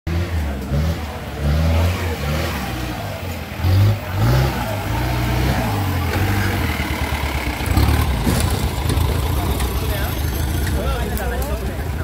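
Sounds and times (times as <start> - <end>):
jeep engine revving: 0.1 - 11.3.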